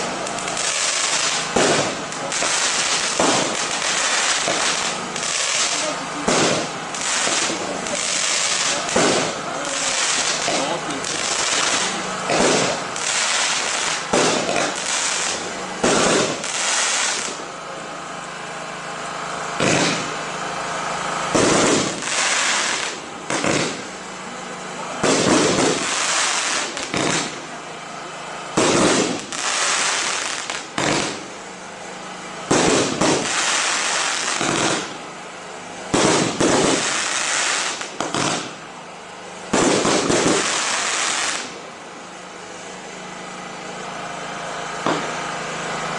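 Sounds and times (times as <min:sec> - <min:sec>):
firework bursts: 0:00.0 - 0:45.9
firework crackle: 0:00.0 - 0:45.9.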